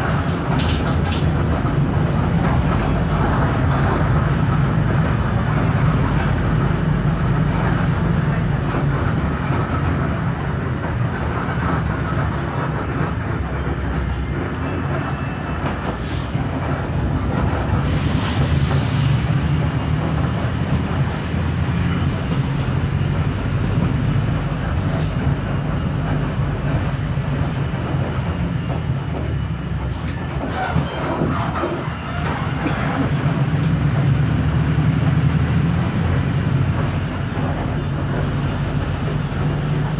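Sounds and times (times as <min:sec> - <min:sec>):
bus diesel engine droning: 0:00.0 - 0:39.9
road noise: 0:00.0 - 0:39.9.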